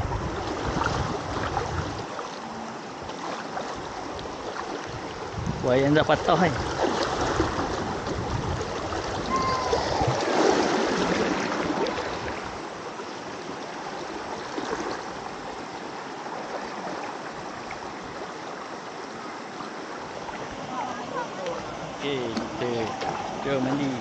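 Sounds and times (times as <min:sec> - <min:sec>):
river water flowing over rocks: 0:00.0 - 0:24.0.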